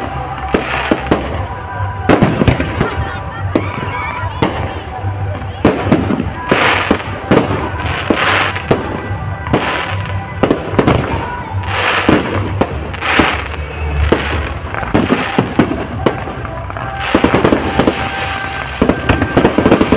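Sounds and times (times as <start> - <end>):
fireworks crackling: 0.0 - 19.9.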